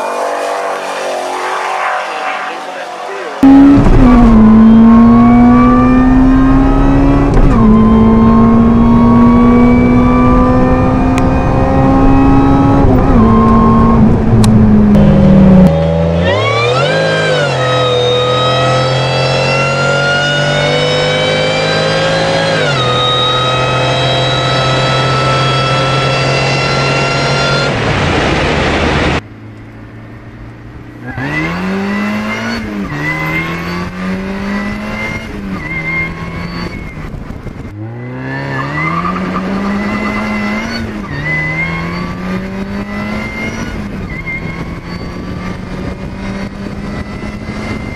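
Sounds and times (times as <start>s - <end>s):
supercharged car engines accelerating: 0.0s - 29.2s, 31.0s - 47.9s.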